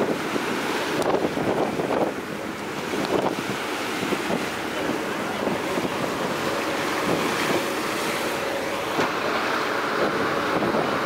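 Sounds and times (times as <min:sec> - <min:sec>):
boat engine running: 0:00.0 - 0:11.0
boat wake churning water: 0:00.0 - 0:11.0
wind buffeting microphone: 0:00.0 - 0:11.0.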